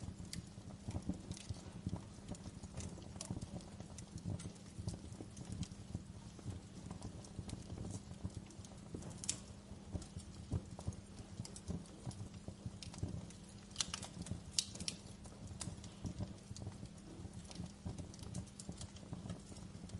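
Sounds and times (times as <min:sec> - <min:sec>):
fire popping and snapping: 0:00.0 - 0:19.9
low rumble of flames: 0:00.0 - 0:19.9
wood fire crackling: 0:00.0 - 0:19.9.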